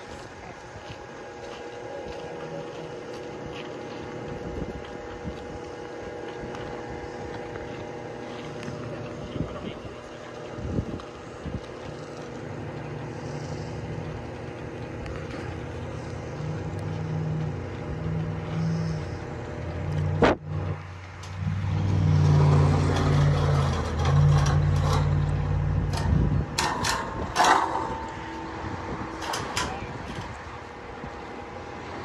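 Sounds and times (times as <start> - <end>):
crane engine revving: 2.9 - 32.0.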